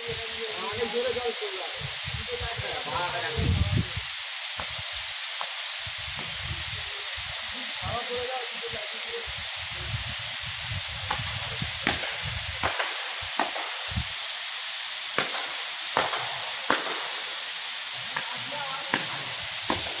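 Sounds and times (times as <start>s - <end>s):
rushing water hiss: 0.0s - 20.0s.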